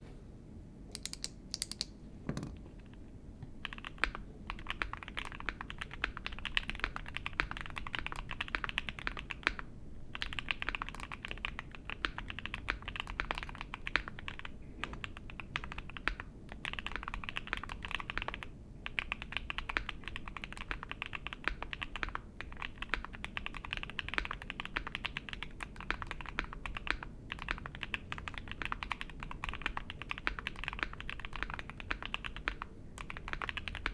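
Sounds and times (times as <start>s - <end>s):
mechanical keyboard typing: 1.0s - 3.0s, 3.6s - 33.9s.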